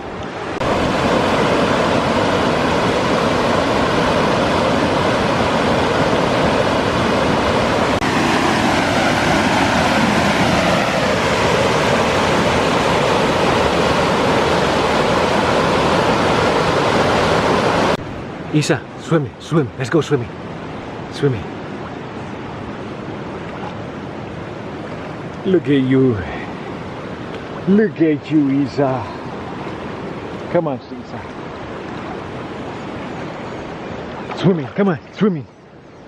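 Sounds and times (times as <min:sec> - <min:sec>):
rushing river water: 0:00.0 - 0:36.0.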